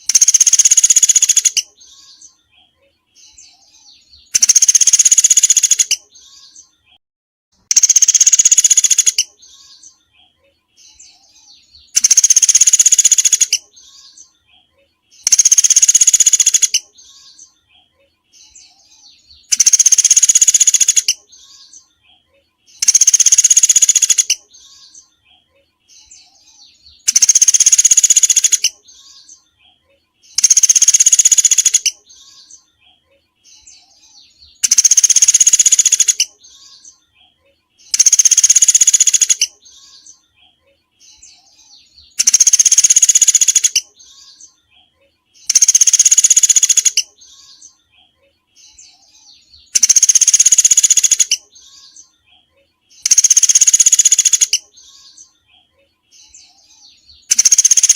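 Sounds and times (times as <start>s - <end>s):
recorded songbird song: 0.0s - 57.9s.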